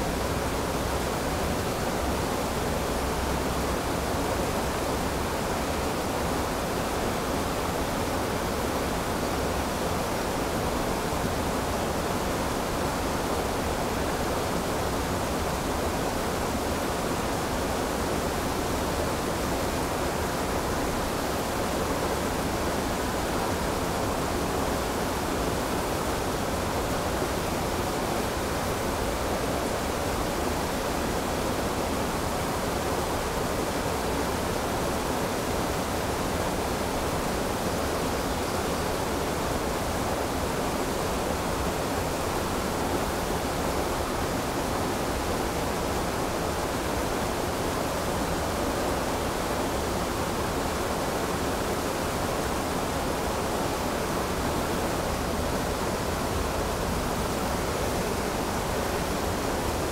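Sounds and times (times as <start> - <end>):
river rushing over a weir: 0.0 - 59.9.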